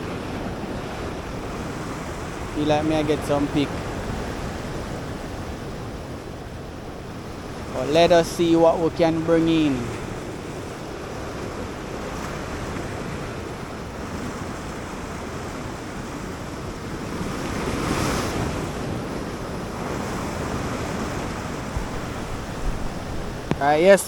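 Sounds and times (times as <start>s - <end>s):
sea surf on rocky shore: 0.0s - 24.0s
wind noise on microphone: 0.0s - 24.0s.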